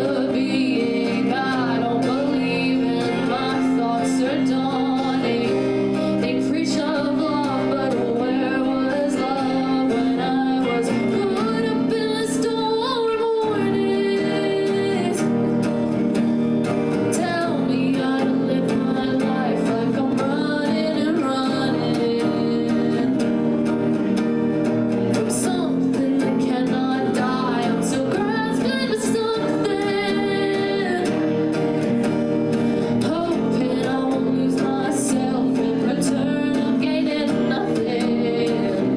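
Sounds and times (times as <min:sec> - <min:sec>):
guitar accompaniment: 0:00.0 - 0:38.9
woman singing: 0:00.0 - 0:38.9.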